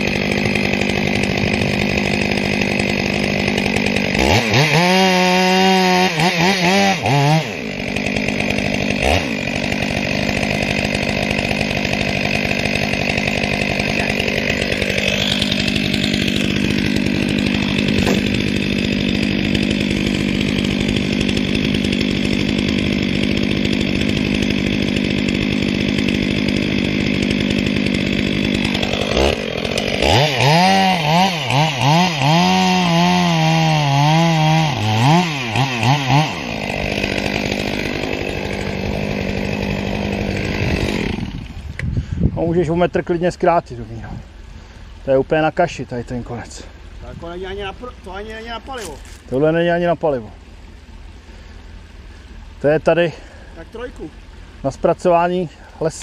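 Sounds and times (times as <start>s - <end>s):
chainsaw cutting wood: 0.0s - 42.0s, 46.3s - 52.1s.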